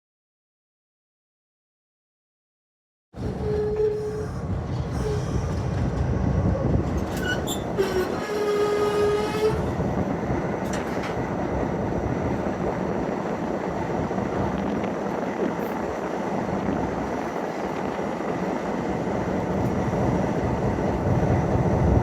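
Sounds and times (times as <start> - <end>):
train rumbling: 3.2 - 22.0.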